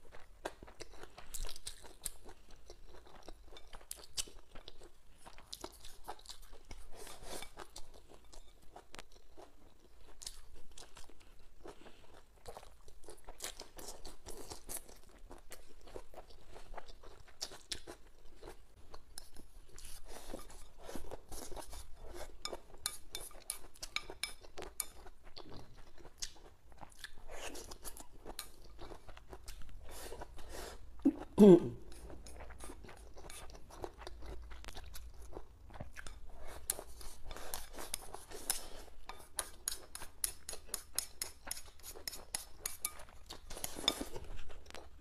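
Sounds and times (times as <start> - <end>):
chewing and crunching: 0.0 - 45.0.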